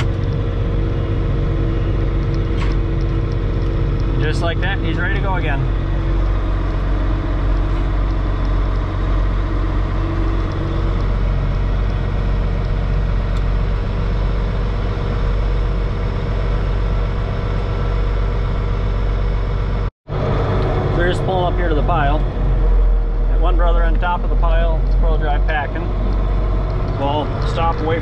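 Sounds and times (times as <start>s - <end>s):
diesel tractor engine droning: 0.0s - 28.0s.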